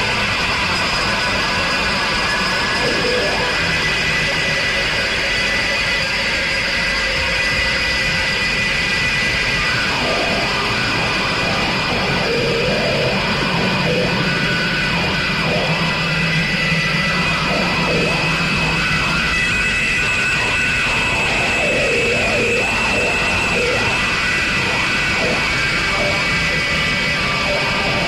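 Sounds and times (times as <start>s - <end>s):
dense wall of noise: 0.0s - 28.0s
low drone: 0.0s - 28.0s.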